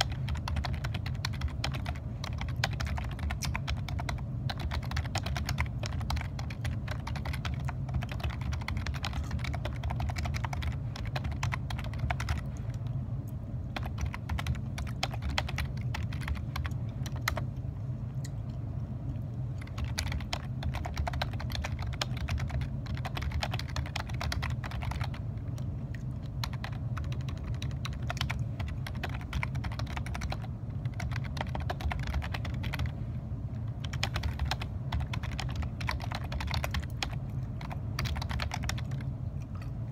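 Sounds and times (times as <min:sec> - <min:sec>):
fast typing on keyboard: 0:00.0 - 0:12.6, 0:13.7 - 0:17.5, 0:19.6 - 0:33.0, 0:33.7 - 0:39.2
steady low hum: 0:00.0 - 0:39.9.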